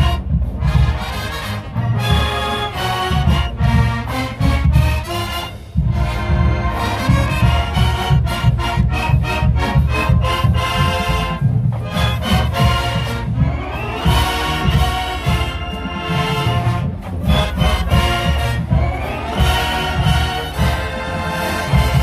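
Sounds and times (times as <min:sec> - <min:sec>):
bass drum and percussion beat: 0:00.0 - 0:22.0
brass phrases: 0:00.0 - 0:22.0.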